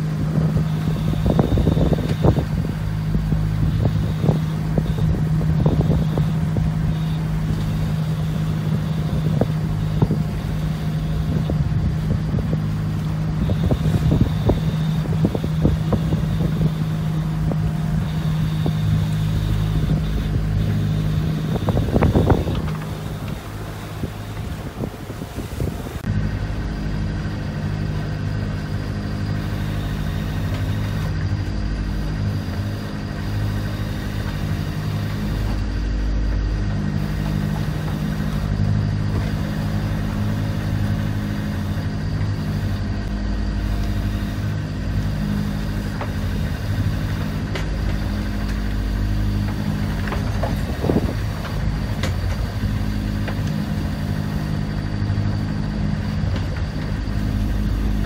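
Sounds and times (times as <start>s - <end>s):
boat engine droning: 0.0s - 58.0s
steady wash of noise: 0.0s - 58.0s.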